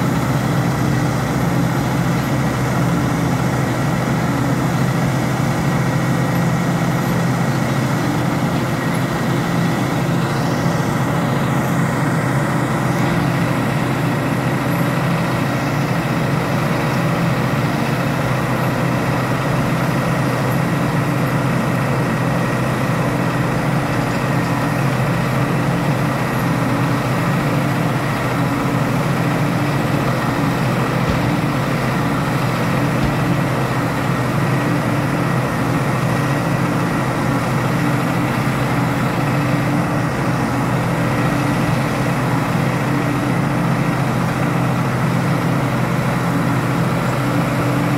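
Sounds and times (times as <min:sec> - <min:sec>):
heavy engine running: 0:00.0 - 0:47.9.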